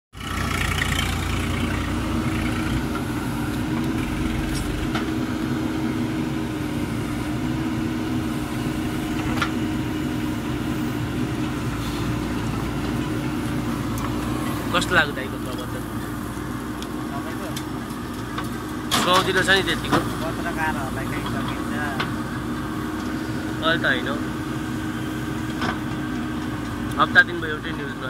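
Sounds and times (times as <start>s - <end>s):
diesel engine running: 0.1s - 28.0s.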